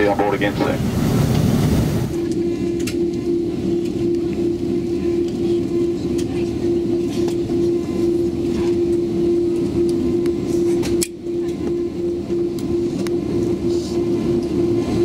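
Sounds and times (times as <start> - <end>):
airplane cabin rumble: 0.0 - 15.0
constant hum: 0.0 - 15.0.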